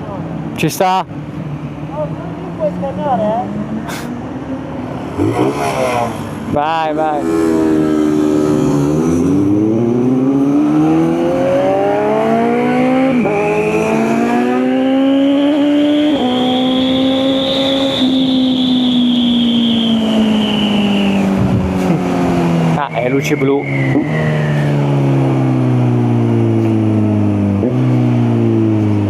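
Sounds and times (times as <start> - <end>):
motorcycle engine accelerating: 4.8 - 29.0.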